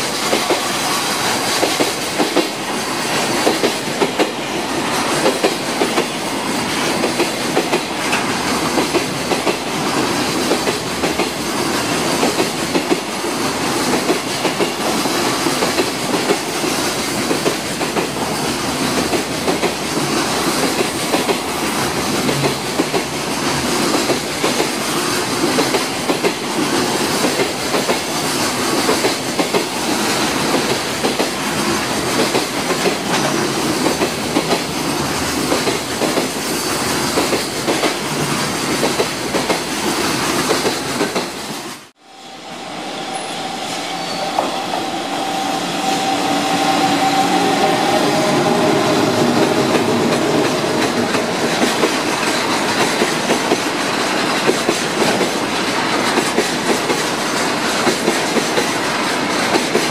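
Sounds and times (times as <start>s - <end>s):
clickety-clack over rail joints: 0.0s - 41.8s, 49.6s - 59.9s
train wheels rumbling: 0.0s - 59.9s.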